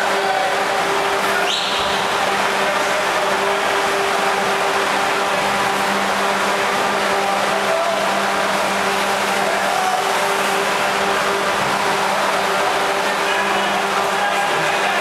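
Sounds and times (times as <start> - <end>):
rushing machinery with low hum: 0.0 - 15.0.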